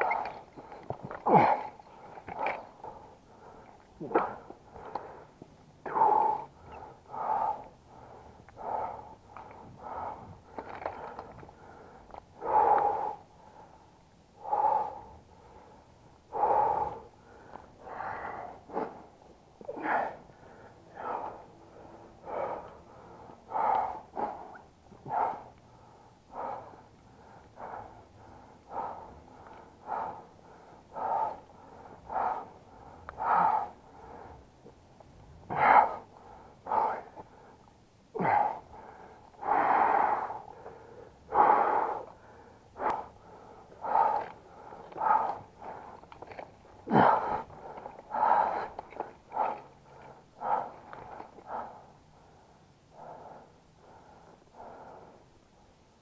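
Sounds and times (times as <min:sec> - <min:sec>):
person breathing hard while running: 0:00.0 - 0:56.0.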